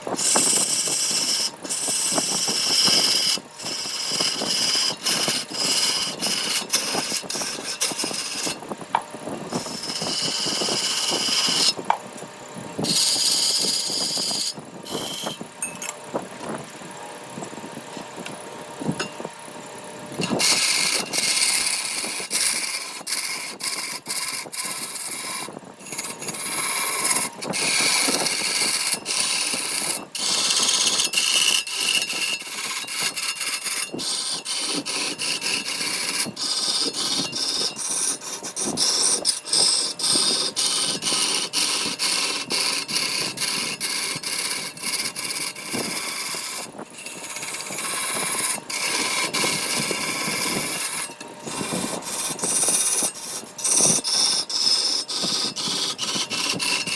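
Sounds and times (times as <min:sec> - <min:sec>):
tool scraping wood: 0:00.0 - 0:15.5, 0:20.2 - 0:56.9.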